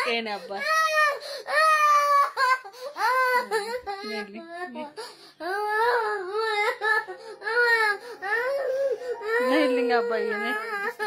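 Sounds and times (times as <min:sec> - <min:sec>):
young child wailing and sobbing: 0:00.0 - 0:11.0.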